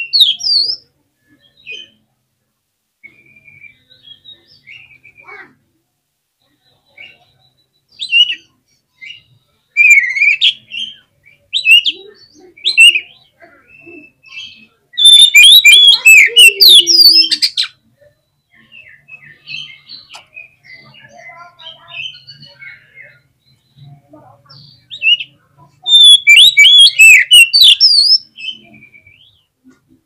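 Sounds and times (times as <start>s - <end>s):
songbird singing whistled phrases: 0.0s - 0.8s, 3.0s - 5.3s, 6.4s - 29.5s.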